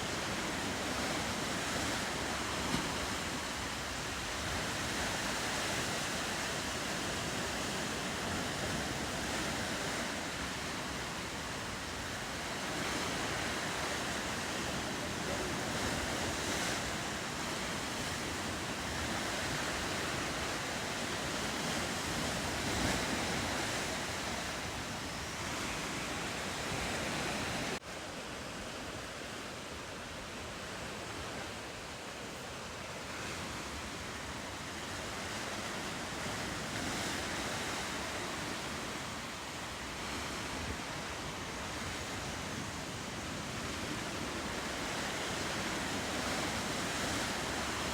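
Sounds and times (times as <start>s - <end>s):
ocean surf washing ashore: 0.0s - 47.9s
wind: 0.0s - 47.9s.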